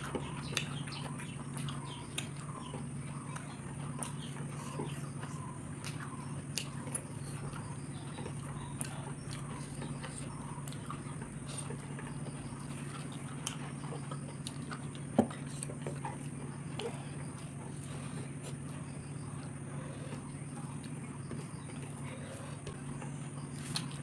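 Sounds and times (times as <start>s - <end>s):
soft chewing: 0.0s - 24.0s
steady low hum: 0.0s - 24.0s.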